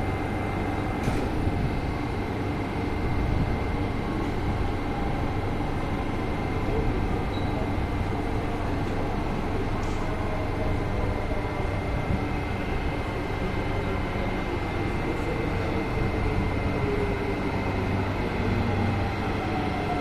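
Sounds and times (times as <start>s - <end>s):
electric train whine: 0.0s - 20.0s
station rumble and hum: 0.0s - 20.0s.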